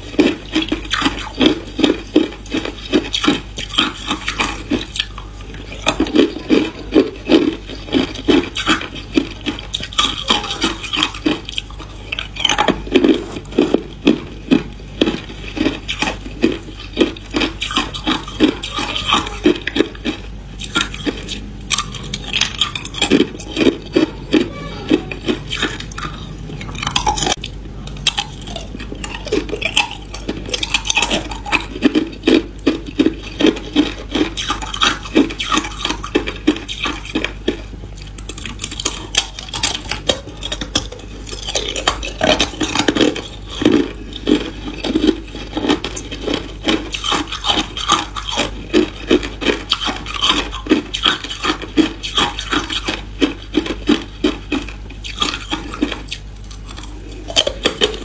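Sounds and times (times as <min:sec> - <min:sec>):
ice cubes crunching: 0:00.0 - 0:58.0.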